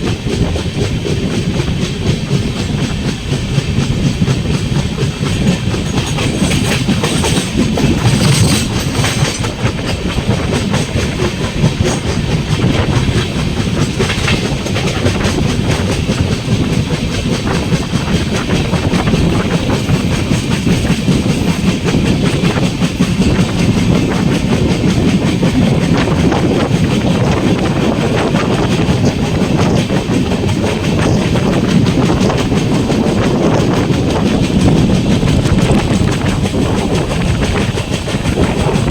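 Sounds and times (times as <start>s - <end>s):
train coach rumbling: 0.0s - 38.9s
wheels clickety-clack over rails: 0.0s - 38.9s.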